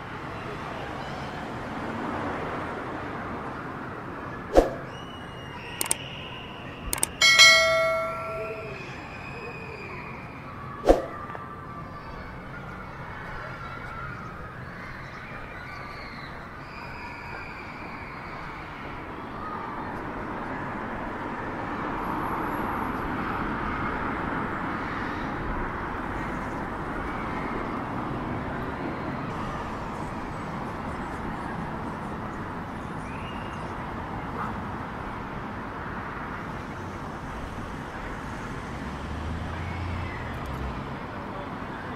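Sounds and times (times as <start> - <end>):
road traffic noise: 0.0 - 41.9.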